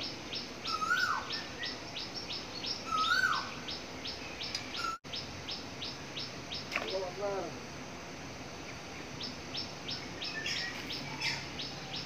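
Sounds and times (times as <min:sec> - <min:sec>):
rising and falling bird call: 0:00.0 - 0:07.1, 0:08.9 - 0:12.0
birds chirping: 0:00.0 - 0:12.0.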